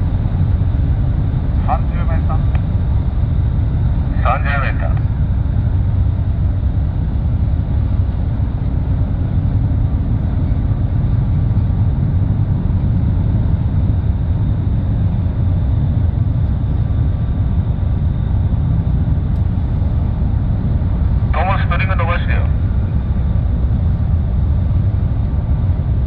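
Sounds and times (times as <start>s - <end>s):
faint steady whine: 0.0s - 26.0s
ship diesel engines rumbling: 0.0s - 26.0s.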